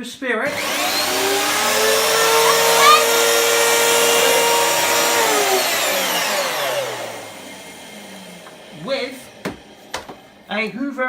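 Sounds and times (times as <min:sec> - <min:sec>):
vacuum motor winding down: 0:00.4 - 0:10.8
vacuum cleaner running: 0:00.4 - 0:10.9.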